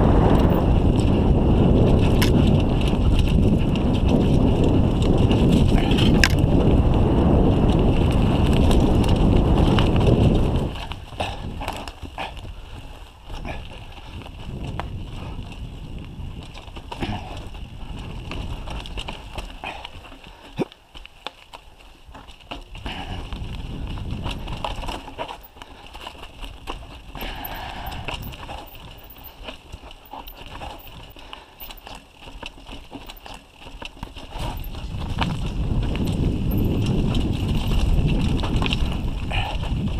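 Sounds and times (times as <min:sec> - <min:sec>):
wind buffeting microphone: 0:00.0 - 0:20.4, 0:22.1 - 0:39.9
bike rattling: 0:00.0 - 0:39.9
tyres rolling over dirt and stones: 0:00.0 - 0:39.9.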